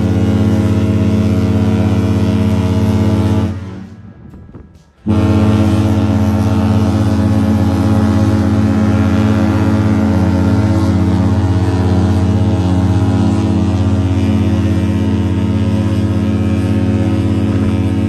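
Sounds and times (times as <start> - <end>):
ship low drone: 0.0 - 18.0.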